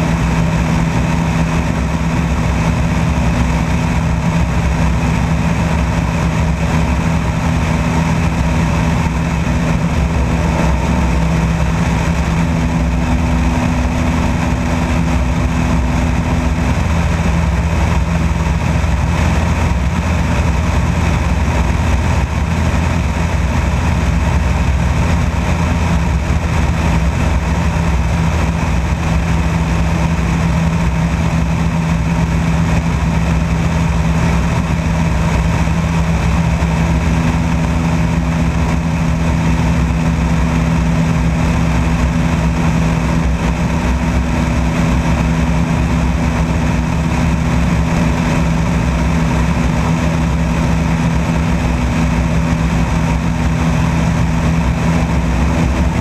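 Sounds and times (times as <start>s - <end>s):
light aircraft engine droning: 0.0s - 56.0s
wind rush: 0.0s - 56.0s.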